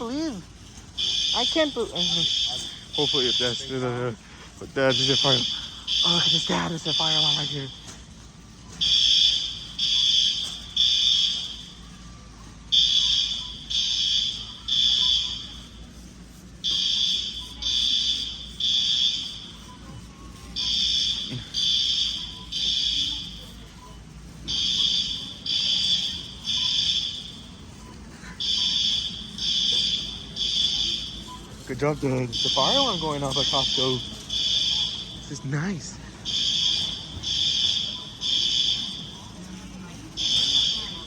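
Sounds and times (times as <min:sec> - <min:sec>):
fire alarm beeping: 0:00.0 - 0:41.0.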